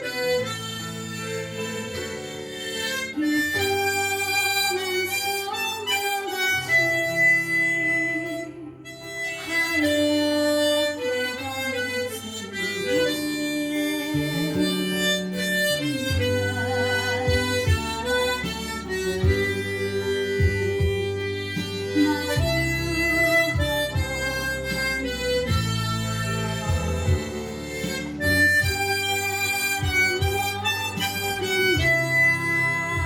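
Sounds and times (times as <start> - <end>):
harmonica slow melody: 0.0 - 33.0
low backing accompaniment: 0.0 - 33.0.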